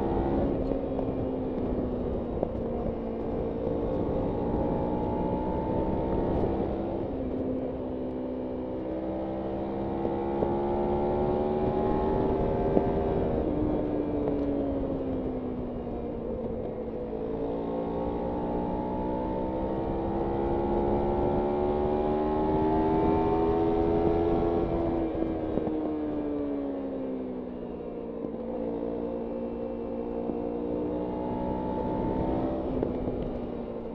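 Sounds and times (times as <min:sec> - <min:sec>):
wind noise: 0:00.0 - 0:26.7, 0:29.3 - 0:33.9
motorcycle engine accelerating: 0:00.0 - 0:33.9.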